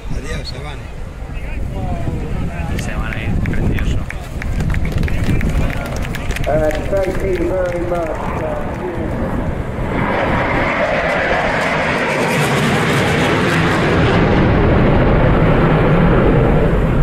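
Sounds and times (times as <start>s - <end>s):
jet aircraft roaring: 0.0s - 17.0s.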